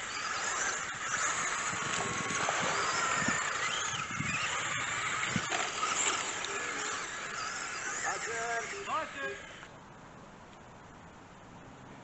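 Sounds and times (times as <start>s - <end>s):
rc car motors whining: 0.0s - 9.7s.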